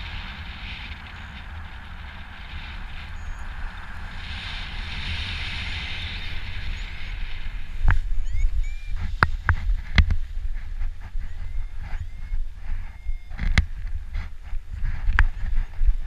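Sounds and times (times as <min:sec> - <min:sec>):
air rushing over microphone: 0:00.0 - 0:16.0.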